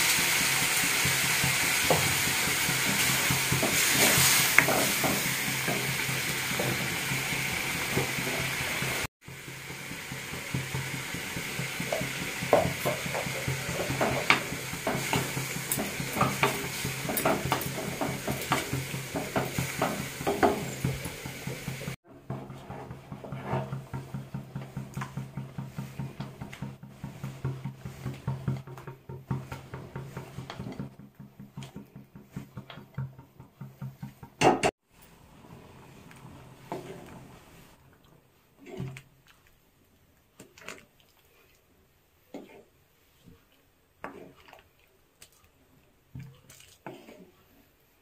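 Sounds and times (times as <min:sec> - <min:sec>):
curry sizzling and bubbling: 0:00.0 - 0:48.0
wooden spoon scraping pan: 0:00.2 - 0:34.4, 0:35.3 - 0:37.8, 0:38.6 - 0:39.0, 0:42.2 - 0:44.6, 0:46.2 - 0:47.9.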